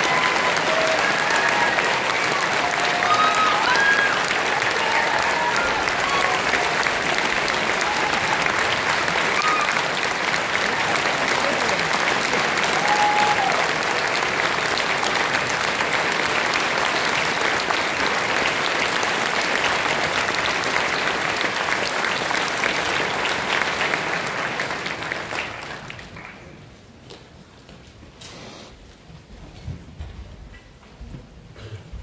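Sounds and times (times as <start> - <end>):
audience applauding: 0.0 - 26.9.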